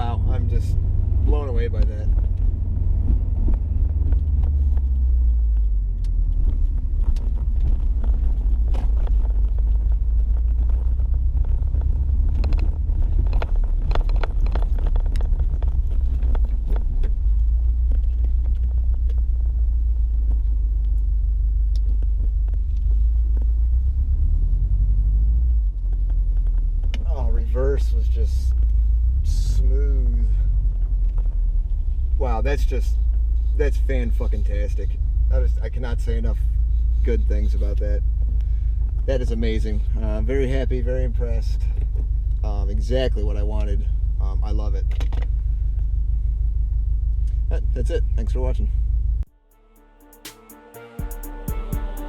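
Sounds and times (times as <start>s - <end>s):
road noise inside car: 0.0s - 49.4s, 50.5s - 52.0s
car engine rumble: 0.0s - 52.0s.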